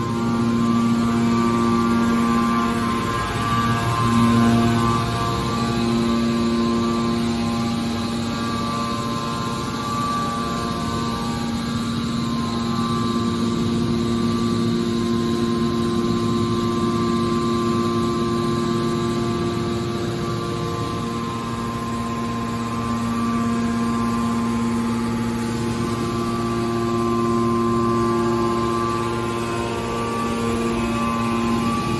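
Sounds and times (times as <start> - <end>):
machinery humming: 0.0 - 31.9.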